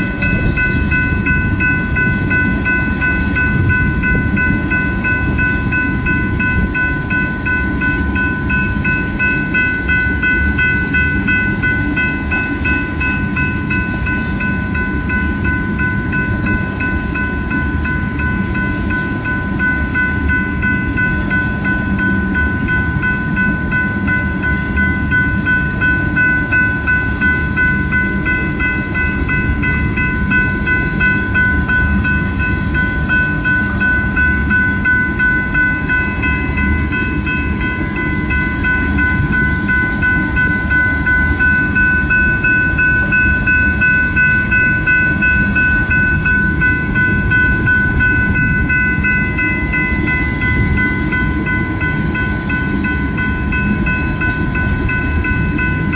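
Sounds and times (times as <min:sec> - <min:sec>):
crossing bell ringing: 0:00.0 - 0:55.9
freight train wheels rumbling: 0:00.0 - 0:55.9.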